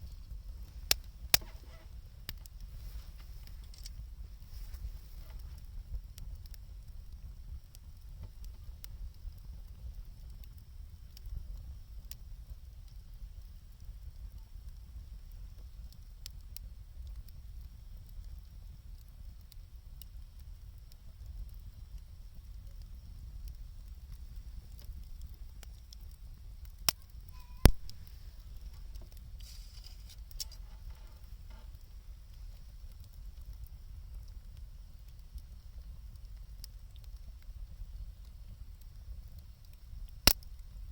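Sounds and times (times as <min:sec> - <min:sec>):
fire crackling and popping: 0:00.0 - 0:40.9
low fire rumble: 0:00.0 - 0:40.9.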